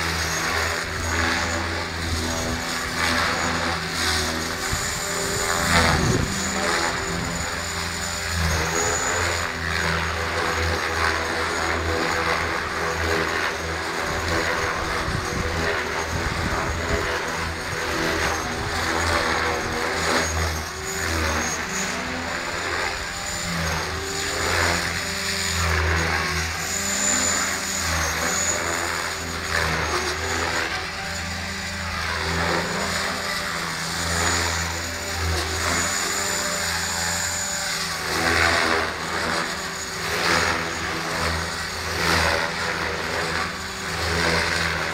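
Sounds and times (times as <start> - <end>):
model helicopter motor whine: 0.0 - 44.9
rotor blades beating: 0.0 - 44.9.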